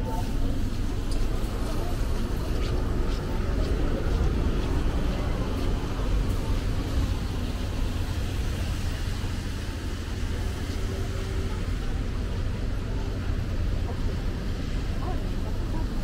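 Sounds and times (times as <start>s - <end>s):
city street ambience: 0.0s - 16.0s.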